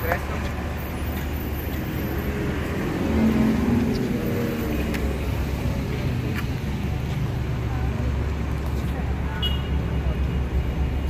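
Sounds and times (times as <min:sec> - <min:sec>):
traffic rumble: 0:00.0 - 0:11.0
vehicle engine passing: 0:00.2 - 0:09.2.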